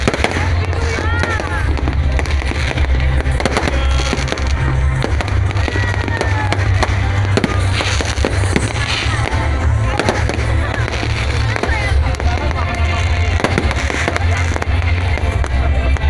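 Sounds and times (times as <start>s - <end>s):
fireworks cracks and bangs: 0.0s - 16.0s
music with heavy bass: 0.0s - 16.0s.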